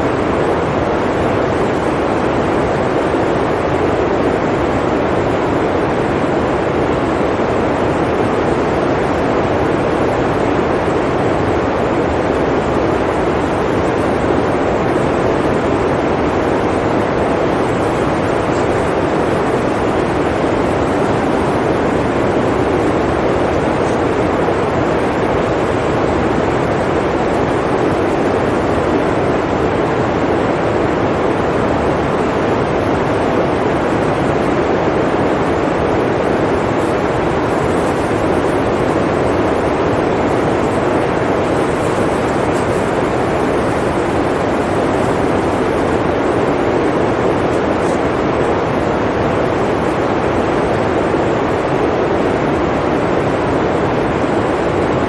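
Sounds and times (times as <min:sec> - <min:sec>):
blizzard wind roaring: 0:00.0 - 0:55.0.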